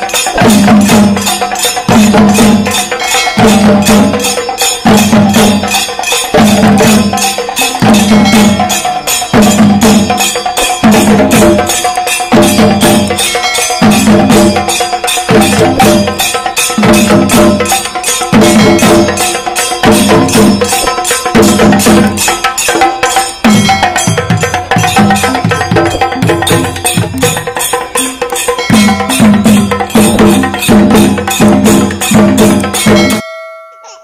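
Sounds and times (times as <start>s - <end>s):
drums beaten fast with sticks: 0.0s - 33.2s.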